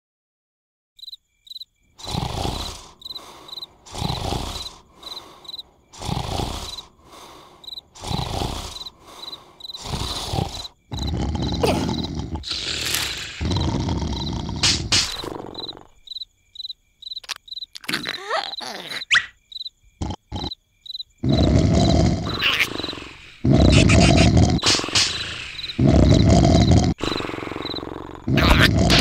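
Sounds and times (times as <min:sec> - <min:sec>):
crickets chirping: 0:01.0 - 0:29.0
cartoon snoring: 0:02.0 - 0:16.0, 0:17.8 - 0:19.3, 0:20.0 - 0:20.6, 0:21.2 - 0:29.0.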